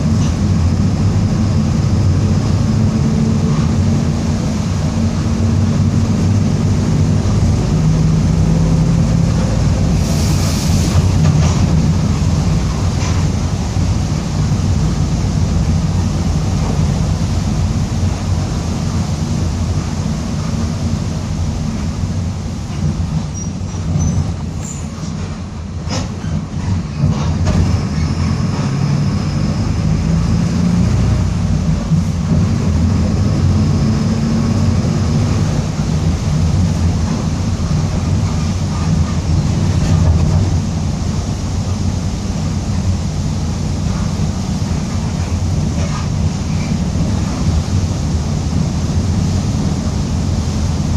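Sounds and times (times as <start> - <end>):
bus diesel engine rumble: 0.0 - 50.9.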